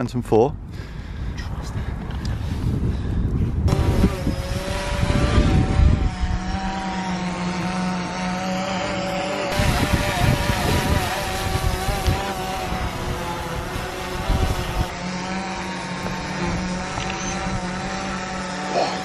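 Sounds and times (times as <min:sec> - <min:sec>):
drone propellers humming: 0:00.8 - 0:19.0.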